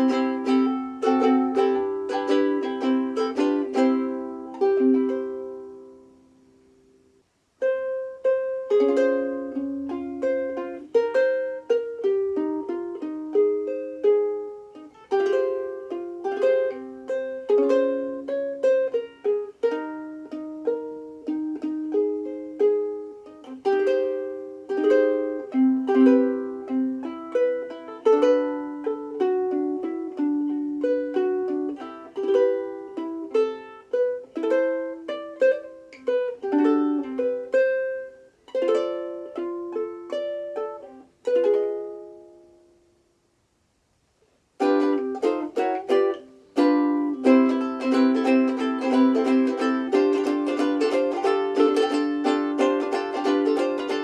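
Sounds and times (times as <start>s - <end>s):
ukulele melody and chords: 0.0s - 54.0s.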